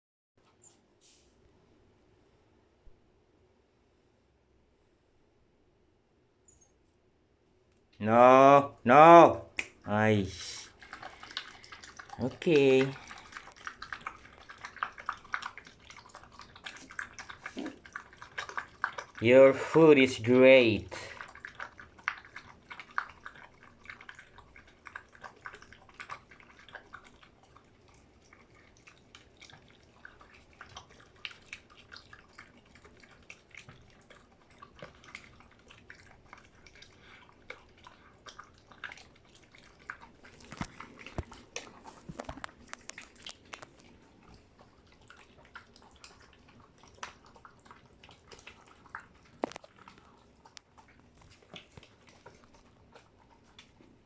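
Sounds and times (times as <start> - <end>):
dog chewing food: 9.4 - 54.0.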